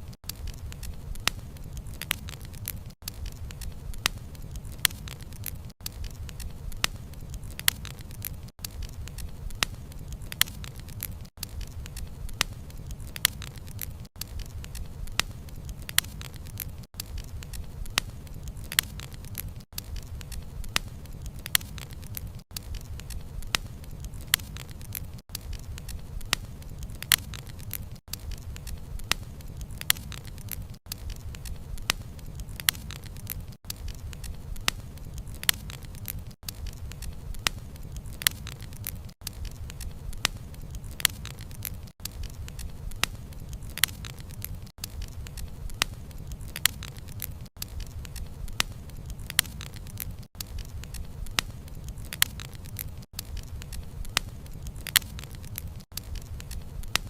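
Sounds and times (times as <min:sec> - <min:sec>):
burning logs crackling and popping: 0:00.0 - 0:57.0
campfire flame rumble: 0:00.0 - 0:57.0.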